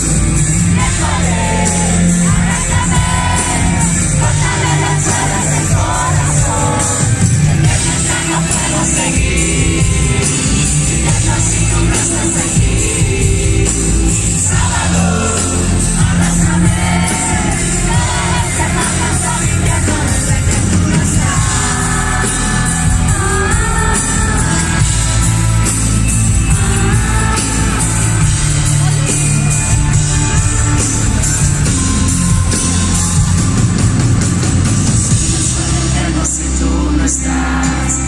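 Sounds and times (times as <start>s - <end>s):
pop-rock band playing live: 0.0s - 38.0s.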